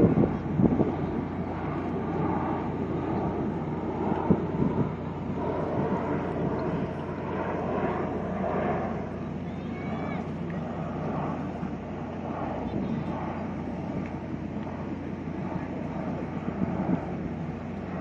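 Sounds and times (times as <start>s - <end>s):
turboprop aircraft droning past: 0.0s - 18.0s.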